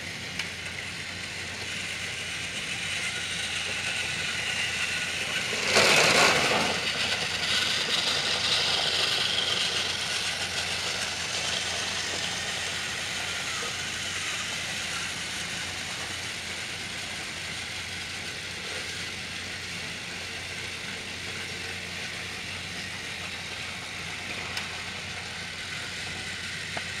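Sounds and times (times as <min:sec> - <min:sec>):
toy train motors running: 0:00.0 - 0:27.0
wheels whirring on plastic track: 0:00.0 - 0:27.0.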